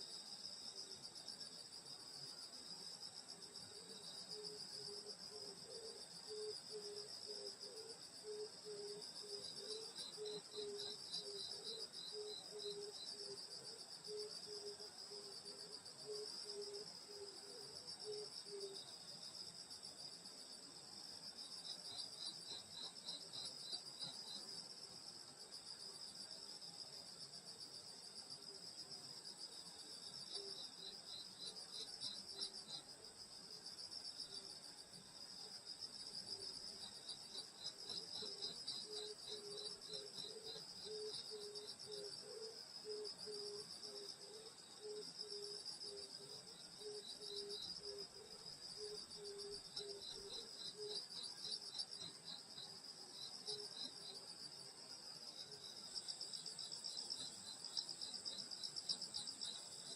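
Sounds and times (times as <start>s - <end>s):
low pulsing insect call: 0.0s - 59.9s
insect pulsed chirping: 0.1s - 59.9s.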